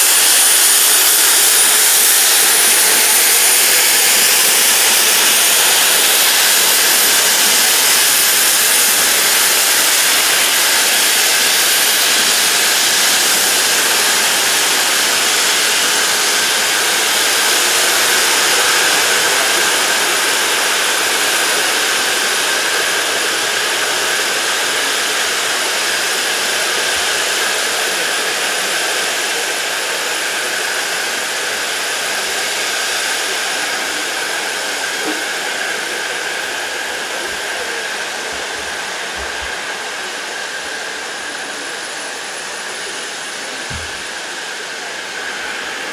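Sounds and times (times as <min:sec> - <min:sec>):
steam locomotive hissing: 0:00.0 - 0:45.9.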